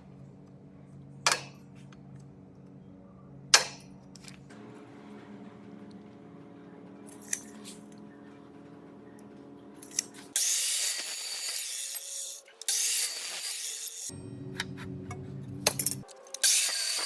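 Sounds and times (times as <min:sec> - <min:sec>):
quiet background music: 0:00.0 - 0:17.0.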